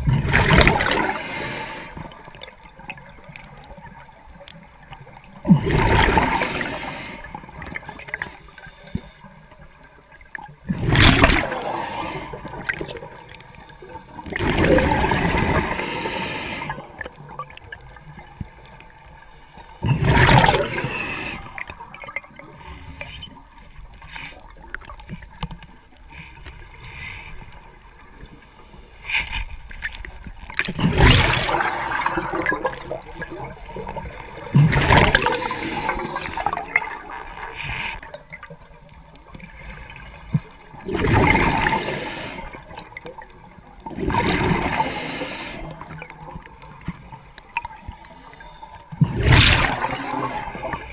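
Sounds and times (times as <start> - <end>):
underwater air bubbles gurgling: 0.0 - 50.9
faint clicking: 0.1 - 5.4, 6.2 - 14.6, 15.5 - 40.8, 44.6 - 50.9.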